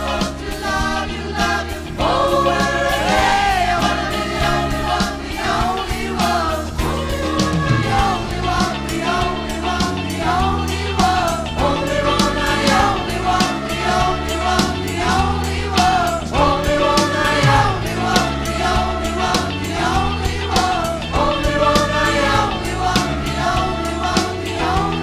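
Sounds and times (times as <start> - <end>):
bass: 0.0 - 25.0
choir singing in harmony: 0.0 - 25.0
drum kit beat: 0.0 - 25.0
keyboards: 0.0 - 25.0.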